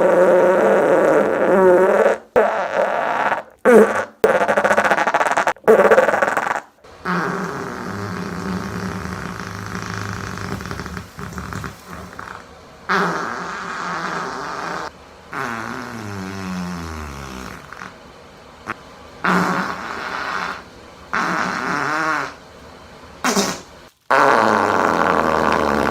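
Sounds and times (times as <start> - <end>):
farts: 0.0 - 18.0, 18.6 - 22.4, 23.2 - 25.9.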